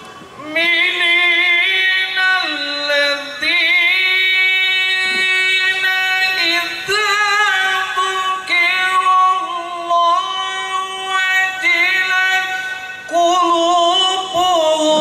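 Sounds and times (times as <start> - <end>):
man reciting melodically: 0.3 - 15.0.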